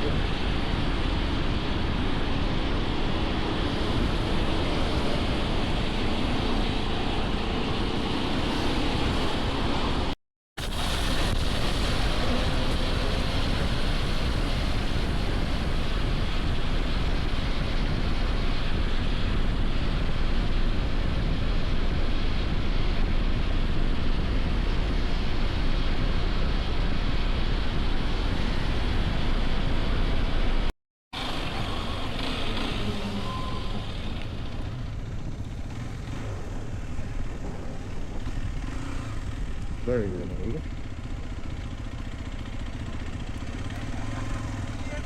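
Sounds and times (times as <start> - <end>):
motorcycle road and engine noise: 0.0 - 45.0
wind rush on microphone: 0.0 - 45.0.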